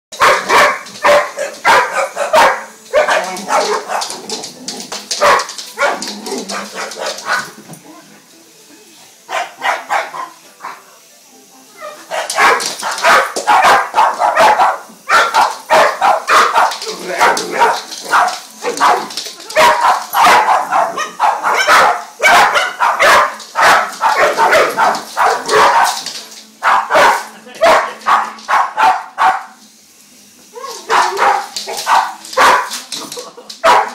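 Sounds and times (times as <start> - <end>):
dog barking: 0.2 - 4.2, 5.2 - 7.5, 9.3 - 10.8, 11.8 - 26.0, 26.6 - 29.6, 30.8 - 32.8, 33.6 - 33.9.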